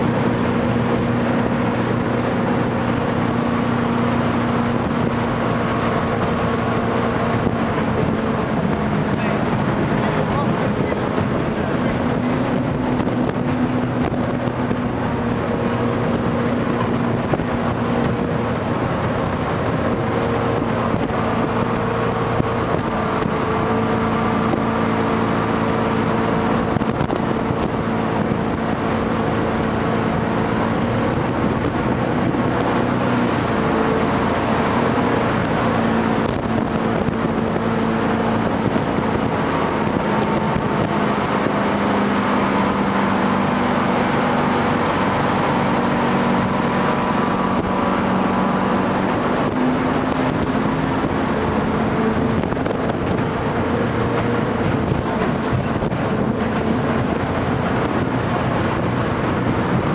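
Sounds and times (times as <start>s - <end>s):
boat engine running: 0.0s - 59.9s
water rushing: 0.0s - 59.9s
wind noise: 0.0s - 59.9s.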